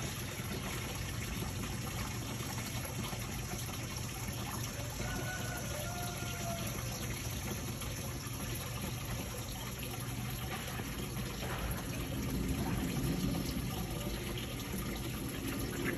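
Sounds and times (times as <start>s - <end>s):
running water rushing: 0.0s - 15.9s.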